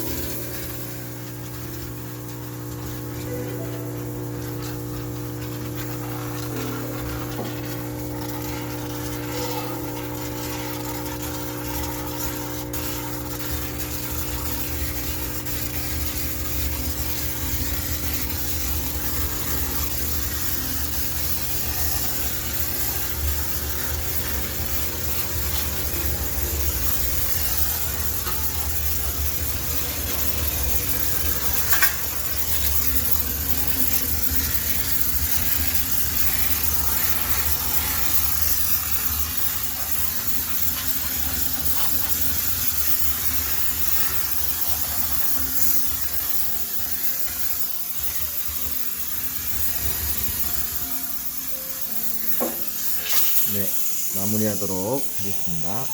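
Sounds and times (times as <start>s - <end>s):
constant machine hum: 0.0s - 54.4s
steam cleaner hissing: 0.0s - 55.9s.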